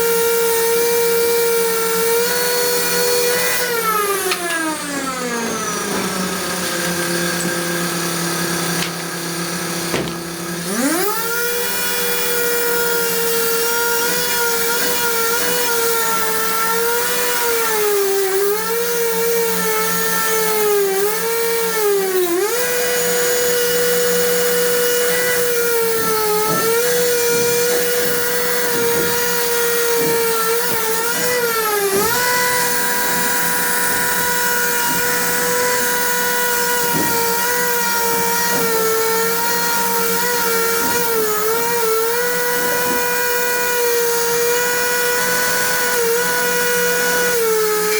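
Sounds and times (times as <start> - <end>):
electric power tool motor whining: 0.0 - 47.9.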